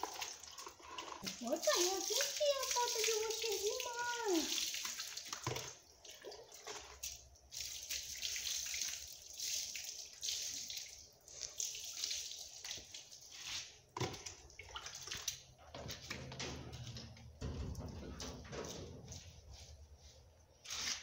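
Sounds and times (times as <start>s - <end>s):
water pouring and splashing: 0.0s - 20.1s.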